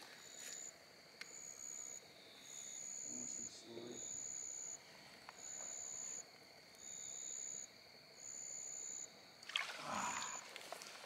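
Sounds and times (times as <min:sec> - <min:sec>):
cricket chirping: 0:00.0 - 0:11.0
steady insect hum: 0:00.0 - 0:11.0.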